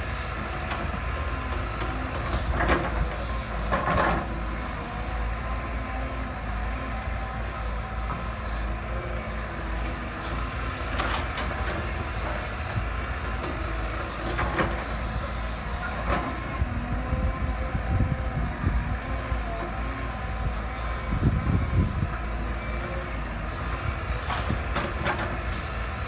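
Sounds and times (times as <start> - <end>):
heavy machinery engine rumble: 0.0 - 26.0.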